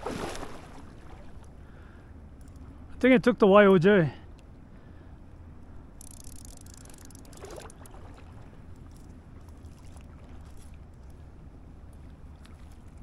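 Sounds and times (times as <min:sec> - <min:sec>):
river water lapping and trickling: 0:00.0 - 0:13.0.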